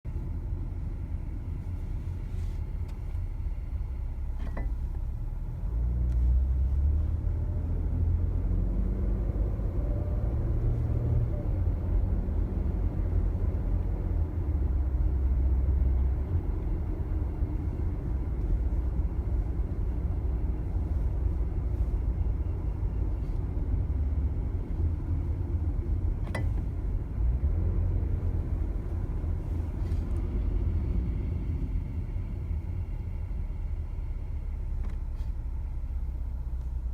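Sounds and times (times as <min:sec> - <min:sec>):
car engine rumble: 0:00.0 - 0:36.9.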